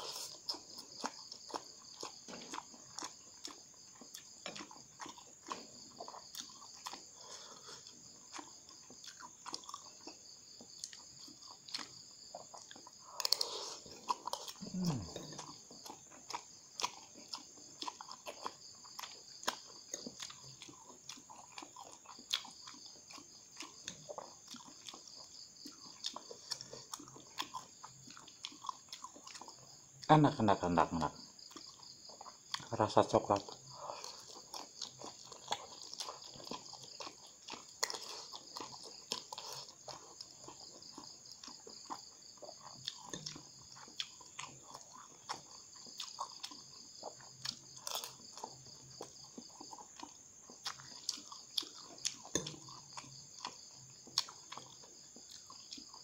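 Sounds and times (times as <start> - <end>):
chewing and smacking: 0.0 - 56.0.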